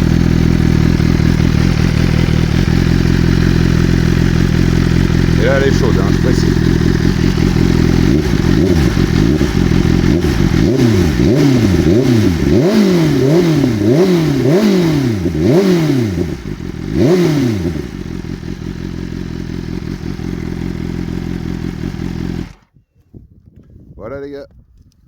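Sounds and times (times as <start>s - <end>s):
motorcycle engine throttle blips: 0.0s - 22.7s.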